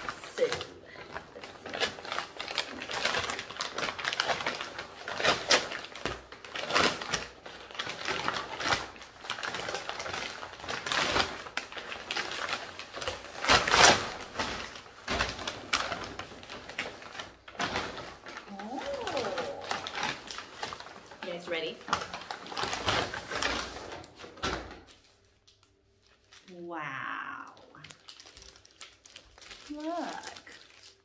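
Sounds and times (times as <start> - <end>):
paper bag crinkling: 0.0 - 31.0.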